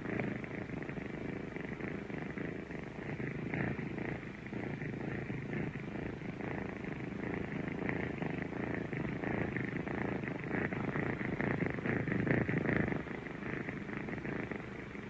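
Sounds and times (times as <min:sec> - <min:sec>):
kittens purring: 0:00.0 - 0:15.0.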